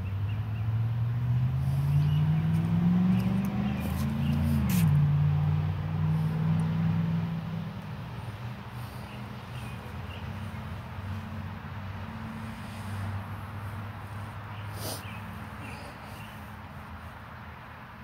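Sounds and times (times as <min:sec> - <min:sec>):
vehicle engine accelerating: 0:00.1 - 0:16.4.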